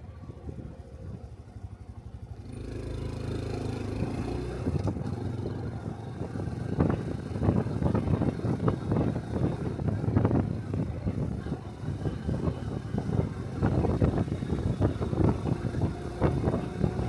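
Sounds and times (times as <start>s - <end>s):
motorcycle engine accelerating: 1.9s - 17.0s.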